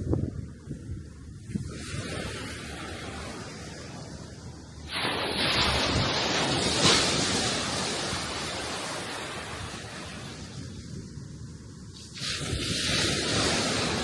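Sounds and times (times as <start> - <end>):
low wind rumble: 0.0 - 14.0
sea wave breaking: 1.5 - 11.2, 12.0 - 14.0.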